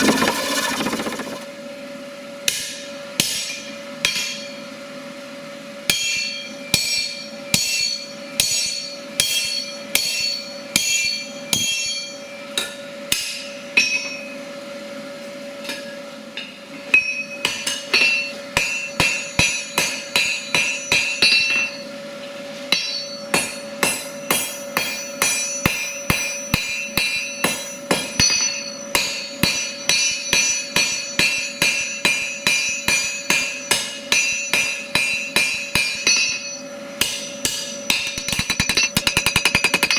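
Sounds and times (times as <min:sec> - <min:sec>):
hammer striking steel on anvil: 0:02.4 - 0:04.6, 0:05.9 - 0:14.4, 0:15.7 - 0:21.9, 0:22.7 - 0:39.9.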